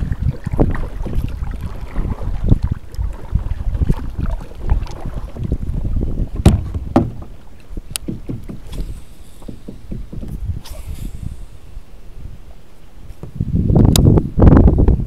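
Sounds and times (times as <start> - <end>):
water slapping kayak hull: 0.0 - 14.0
wind buffeting microphone: 0.0 - 15.0.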